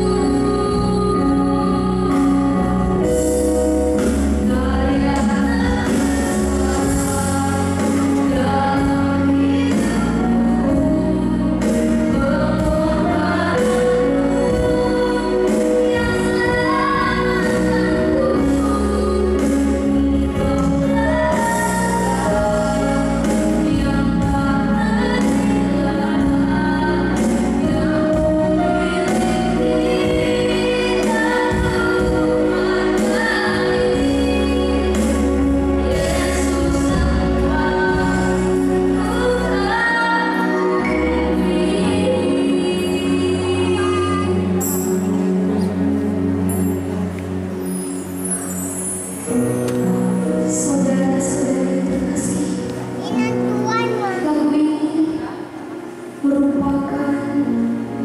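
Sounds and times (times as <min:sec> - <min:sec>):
woman singing slow song: 0:00.0 - 0:47.0, 0:47.6 - 0:53.0, 0:54.0 - 0:58.0
instrumental accompaniment: 0:00.0 - 0:58.0.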